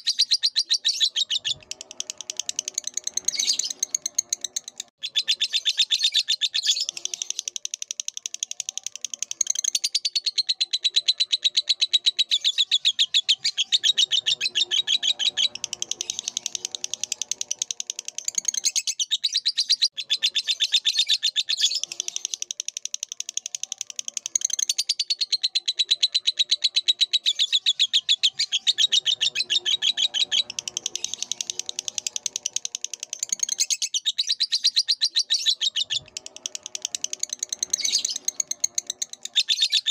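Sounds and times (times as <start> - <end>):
lovebird chattering chirps: 0.0 - 39.9.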